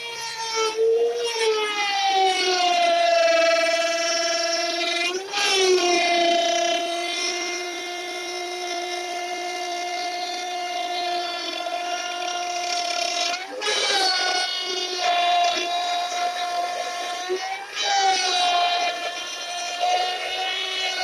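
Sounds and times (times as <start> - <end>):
electric router whining: 0.0 - 21.0.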